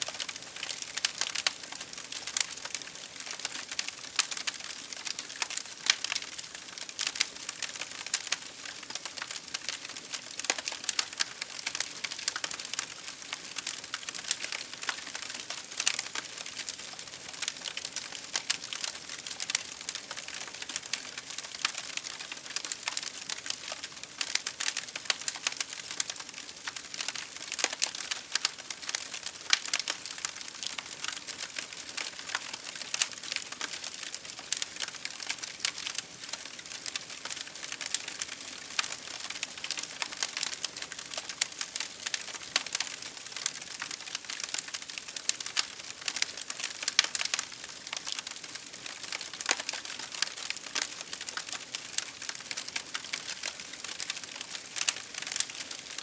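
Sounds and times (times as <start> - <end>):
fire crackling: 0.1 - 56.0.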